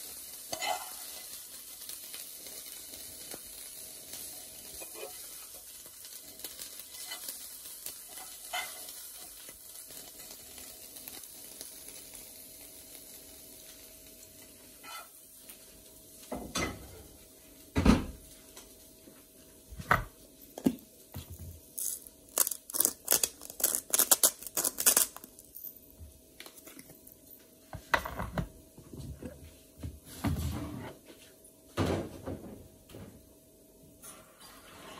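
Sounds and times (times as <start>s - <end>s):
faint sizzling in a frying pan: 0.0s - 34.9s.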